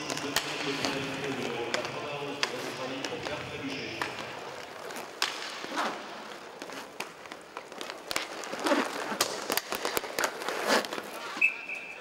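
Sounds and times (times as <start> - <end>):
hockey sticks and puck clacking: 0.0 - 12.0.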